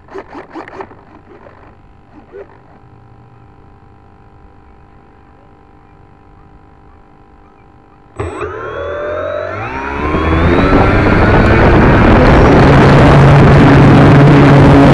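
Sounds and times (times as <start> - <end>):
thin electronic hum: 0.0 - 14.9.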